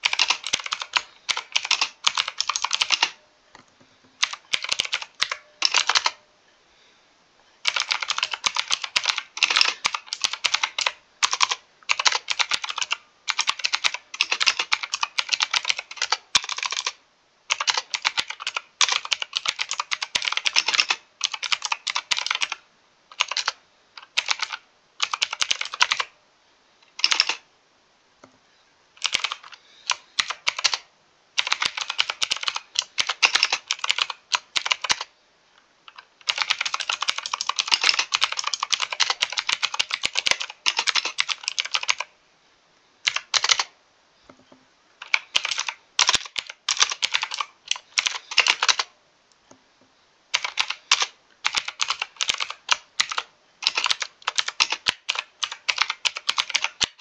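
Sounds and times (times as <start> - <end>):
mechanical keyboard typing: 0.0 - 3.2, 4.2 - 6.2, 7.6 - 26.1, 26.9 - 27.4, 29.0 - 35.1, 35.9 - 42.1, 43.0 - 43.7, 45.0 - 48.9, 50.3 - 57.0.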